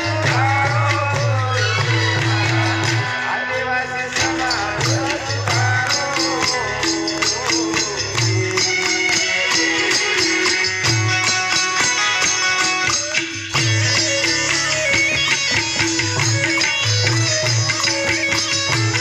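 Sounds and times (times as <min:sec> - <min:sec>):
percussion strokes: 0:00.0 - 0:19.0.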